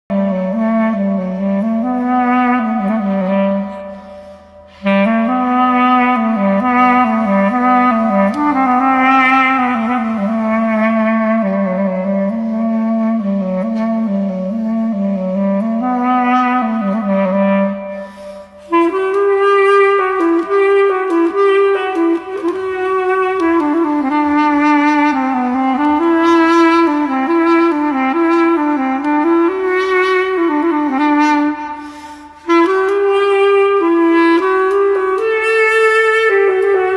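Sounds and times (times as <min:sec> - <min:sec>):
clarinet-like woodwind melody: 0:00.1 - 0:36.9.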